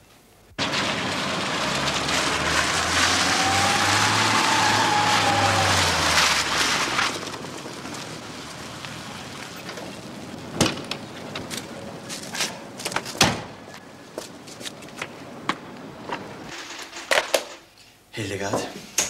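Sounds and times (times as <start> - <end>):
car engine and tyre noise: 0.0 - 16.5.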